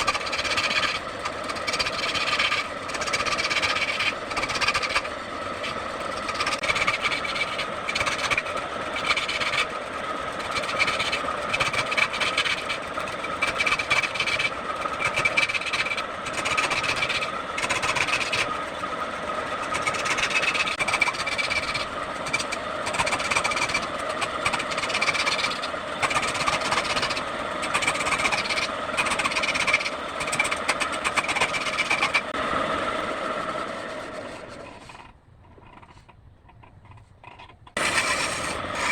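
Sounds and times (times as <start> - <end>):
turning tool scraping wood: 0.0 - 32.4, 33.4 - 38.9
wood lathe whining: 0.0 - 35.9, 37.8 - 38.9.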